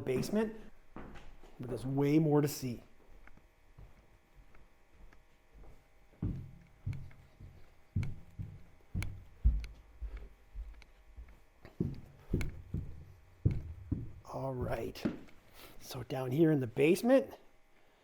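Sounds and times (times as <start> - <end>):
footsteps going down stairs: 0.0 - 2.2, 2.8 - 16.0.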